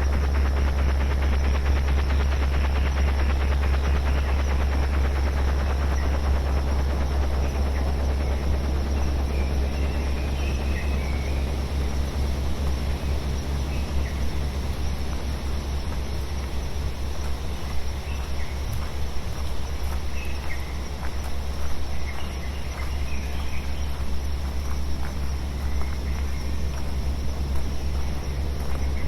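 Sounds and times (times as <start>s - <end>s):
deep bass noise hiss: 0.0s - 29.0s.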